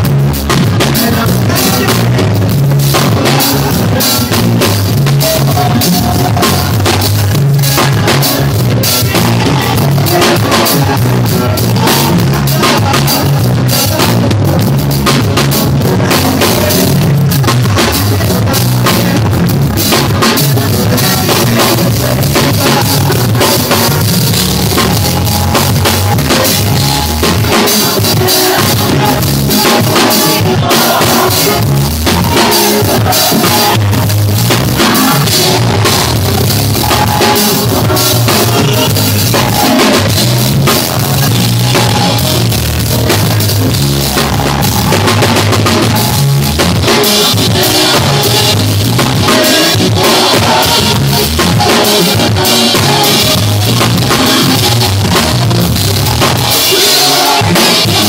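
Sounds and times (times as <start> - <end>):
steady low notes: 0.0 - 56.7
drum kit groove: 0.0 - 58.0.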